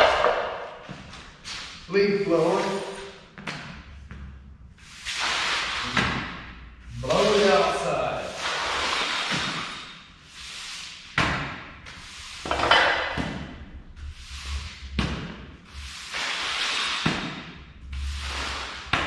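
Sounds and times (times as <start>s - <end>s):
broom sweeping floor: 0.0s - 3.1s, 4.8s - 19.0s.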